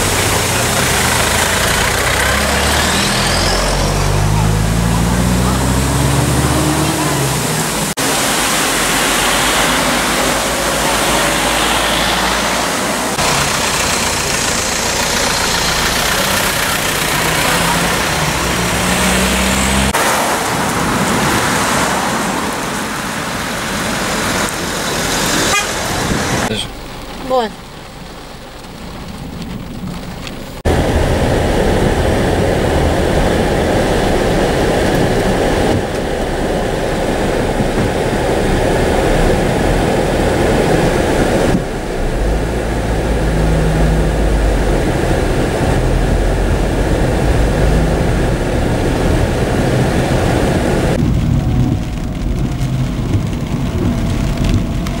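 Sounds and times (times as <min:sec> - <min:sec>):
heavy rain drumming on car roof: 0:00.0 - 0:02.6, 0:06.8 - 0:55.0
road and engine rumble: 0:00.0 - 0:55.0.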